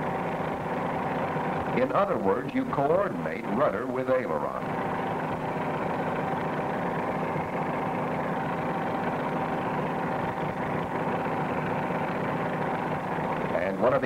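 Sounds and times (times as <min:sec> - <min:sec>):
propeller airplane engine humming: 0:00.0 - 0:14.0.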